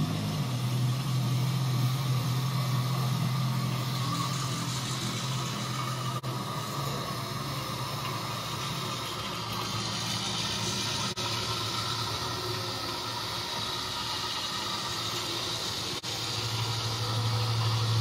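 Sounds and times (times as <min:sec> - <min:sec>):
even hiss: 0:00.0 - 0:18.0
low hum: 0:00.0 - 0:18.0.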